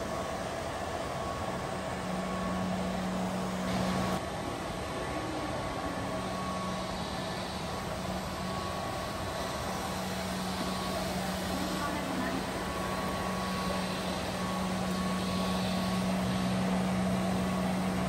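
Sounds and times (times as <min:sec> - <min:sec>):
floor scrubbing robot running: 0:00.0 - 0:18.0.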